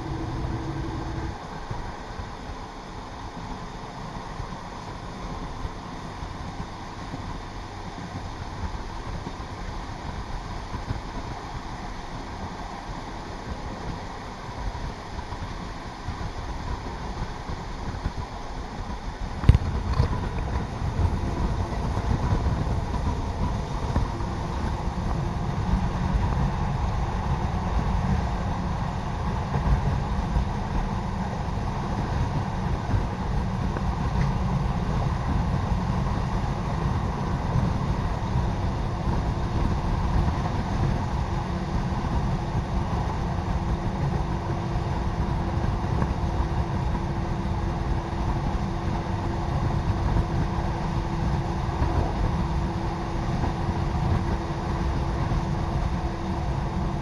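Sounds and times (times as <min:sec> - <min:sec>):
low engine drone: 0:00.0 - 0:57.0
railcar engine and wheels rumbling: 0:00.0 - 0:57.0.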